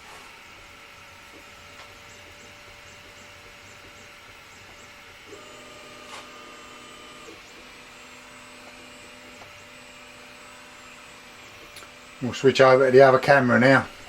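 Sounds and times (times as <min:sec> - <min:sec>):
laser engraver hiss: 0:00.0 - 0:14.0
motors whining: 0:00.0 - 0:14.0.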